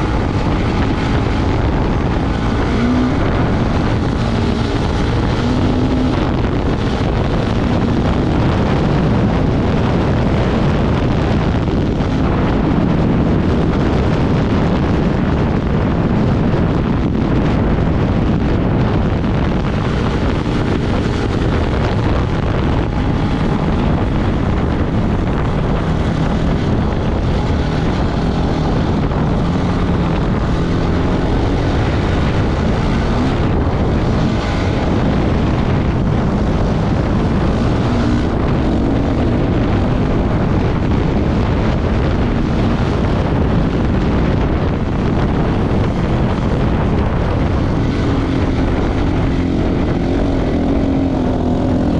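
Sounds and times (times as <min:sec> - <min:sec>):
motorcycle engine running: 0:00.0 - 0:51.9
wind noise on microphone: 0:00.0 - 0:51.9.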